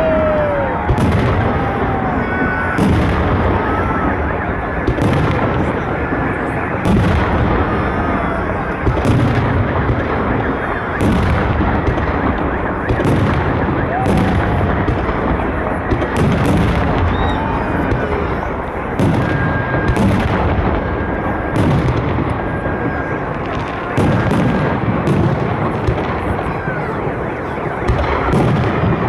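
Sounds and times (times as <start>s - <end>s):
dense background noise: 0.0s - 29.0s
firework shells booming: 0.0s - 29.0s.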